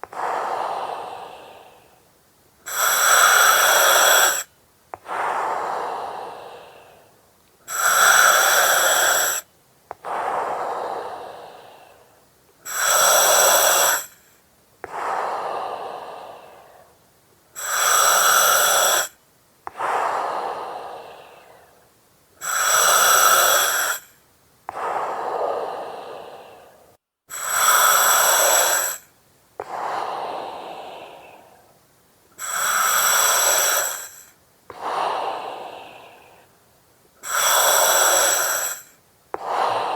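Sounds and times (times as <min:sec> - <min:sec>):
breathing through oxygen mask: 0:00.0 - 0:02.0, 0:02.6 - 0:17.0, 0:17.6 - 0:21.8, 0:22.4 - 0:31.7, 0:32.4 - 0:36.5, 0:37.2 - 0:39.9.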